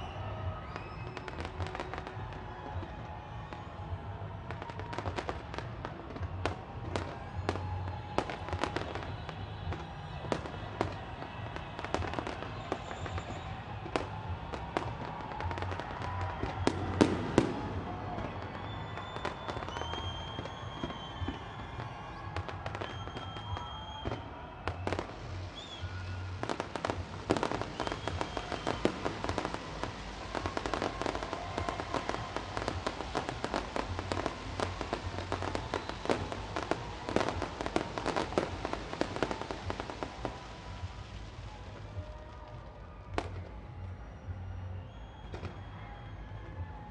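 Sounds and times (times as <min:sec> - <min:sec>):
fireworks bangs and crackles: 0:00.0 - 0:46.9
music playing: 0:00.0 - 0:46.9.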